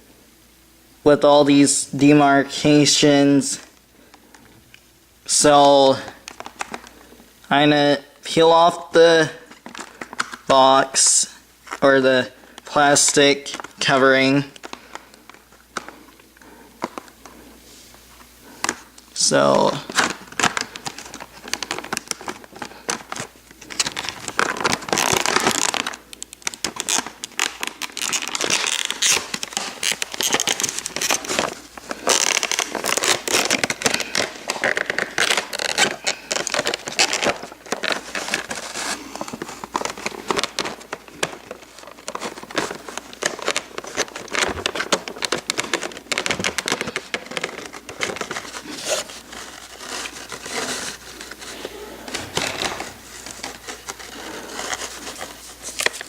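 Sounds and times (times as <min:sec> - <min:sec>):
plastic packaging crinkling: 0:05.8 - 0:07.6, 0:08.7 - 0:56.0.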